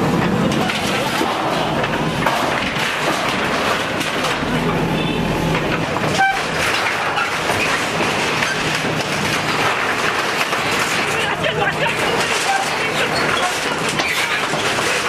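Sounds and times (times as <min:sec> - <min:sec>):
diesel engine under load: 0:00.0 - 0:15.0
metal sheets clanking and crashing: 0:00.0 - 0:15.0.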